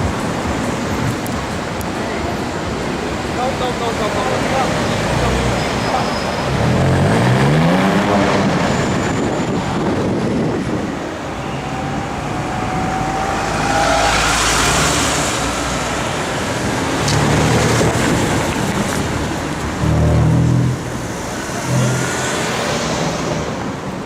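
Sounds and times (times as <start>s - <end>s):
city traffic noise: 0.0s - 24.0s
car engine accelerating: 4.5s - 24.0s.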